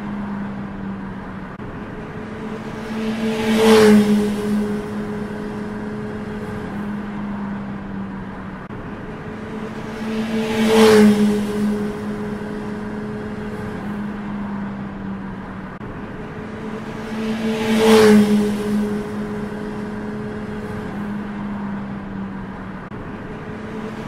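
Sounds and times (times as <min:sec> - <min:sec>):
motorcycle passing fast: 0:01.6 - 0:24.0.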